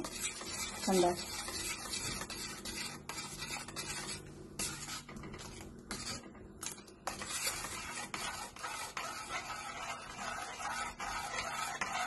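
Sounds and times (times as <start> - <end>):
ladle scraping a metal pot: 0.0 - 12.0.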